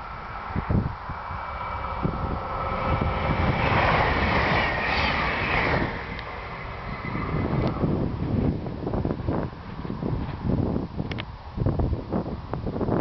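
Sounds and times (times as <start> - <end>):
train passing at speed: 0.0 - 12.6
wind buffeting microphone: 0.0 - 13.0.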